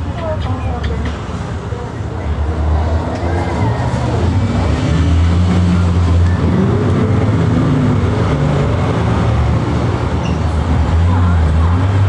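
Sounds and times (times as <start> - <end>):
bus engine drone: 0.0 - 12.0
road and body noise: 0.0 - 12.0.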